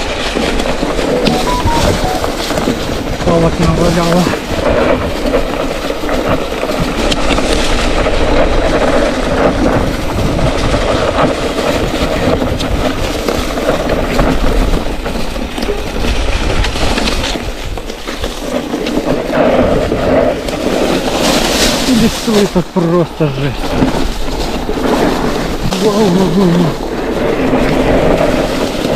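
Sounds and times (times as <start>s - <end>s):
bike rattling: 0.0s - 1.4s, 2.0s - 28.9s
bike tyres crunching over stones: 0.0s - 28.9s
wind rumble on microphone: 0.0s - 28.9s.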